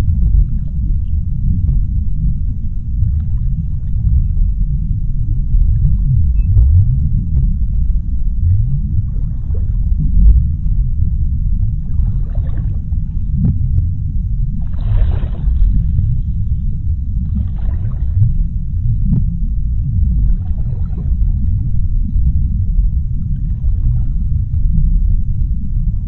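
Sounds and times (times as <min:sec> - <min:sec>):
underwater ocean rumble: 0:00.0 - 0:26.0.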